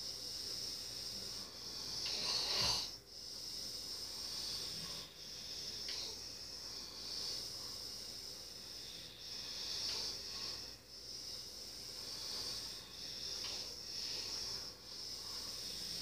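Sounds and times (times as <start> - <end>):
person snoring: 0.0 - 16.0.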